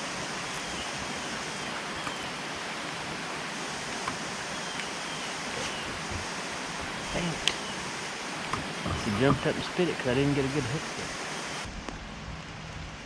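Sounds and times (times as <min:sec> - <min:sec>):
rain falling on water: 0:00.0 - 0:12.8.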